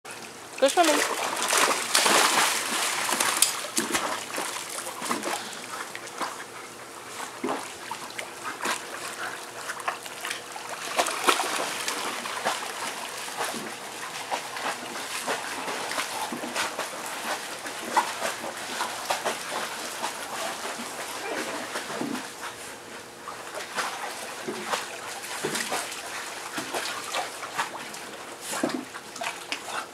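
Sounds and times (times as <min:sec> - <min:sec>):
dogs splashing in pool: 0:00.2 - 0:29.9.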